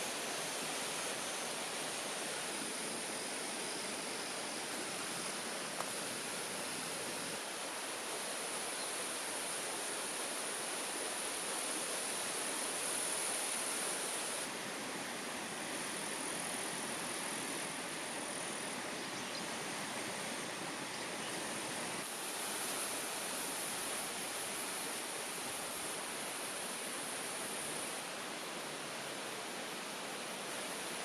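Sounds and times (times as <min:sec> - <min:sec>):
high-pitched hiss: 0:00.0 - 0:31.0
mountain stream rushing: 0:00.0 - 0:31.0.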